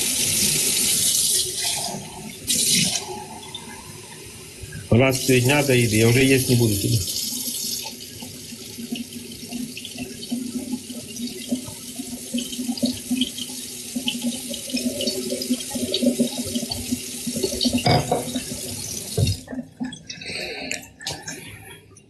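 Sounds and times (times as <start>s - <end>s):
tap water running into sink: 0.0s - 21.4s.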